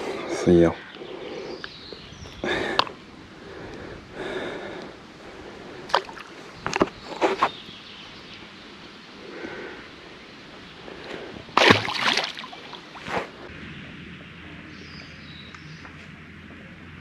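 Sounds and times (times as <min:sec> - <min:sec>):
low outdoor background: 0:00.0 - 0:17.0.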